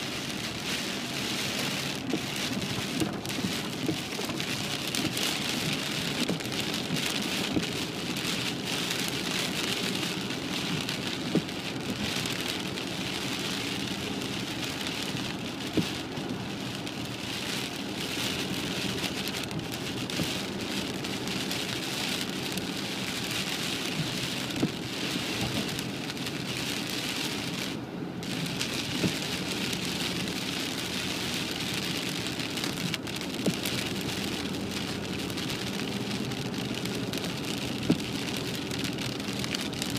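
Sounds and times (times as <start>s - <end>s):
heavy rain on car roof: 0.0s - 39.9s
low hum of moving car: 0.0s - 39.9s.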